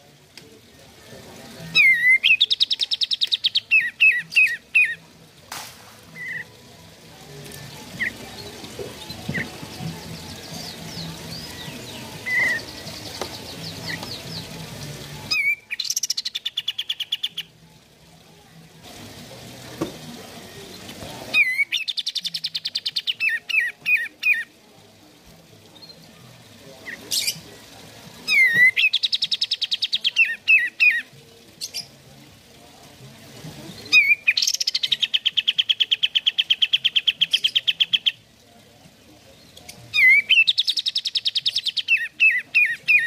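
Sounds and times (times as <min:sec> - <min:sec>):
bird singing rattling trill: 0:00.9 - 0:05.1, 0:06.1 - 0:06.6, 0:07.3 - 0:17.6, 0:20.4 - 0:24.6, 0:25.6 - 0:33.0, 0:33.6 - 0:38.3, 0:39.2 - 0:43.0.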